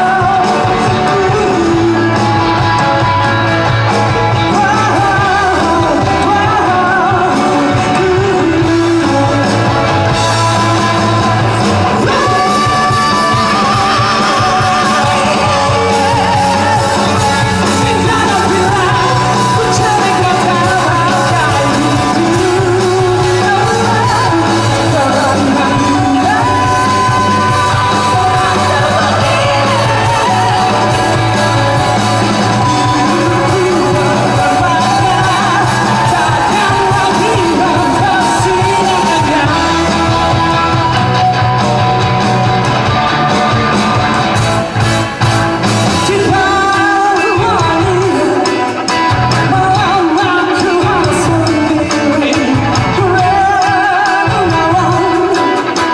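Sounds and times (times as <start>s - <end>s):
lead vocalist singing: 0.0s - 55.9s
rock band playing live: 0.0s - 55.9s.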